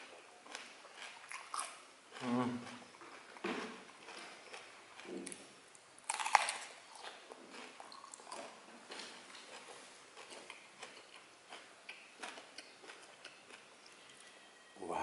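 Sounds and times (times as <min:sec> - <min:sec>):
close-up chewing with crunches: 0:00.0 - 0:14.4.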